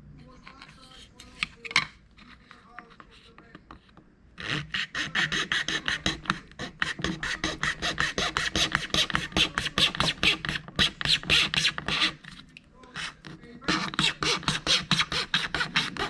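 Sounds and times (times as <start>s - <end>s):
hand tool scraping plastic: 2.2s - 16.0s.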